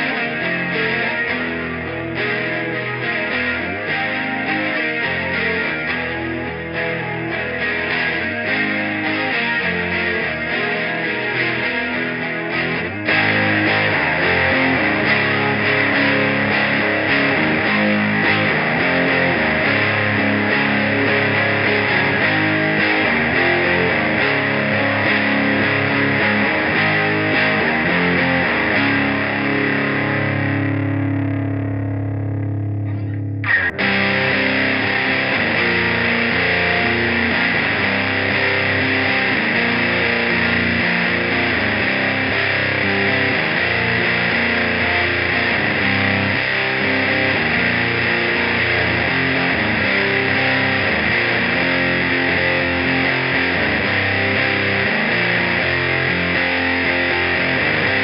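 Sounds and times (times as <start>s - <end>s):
distorted electric guitar riff: 0.0s - 58.0s.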